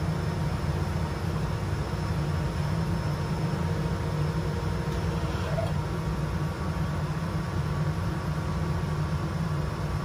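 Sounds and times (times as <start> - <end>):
air extraction hum: 0.0 - 10.0.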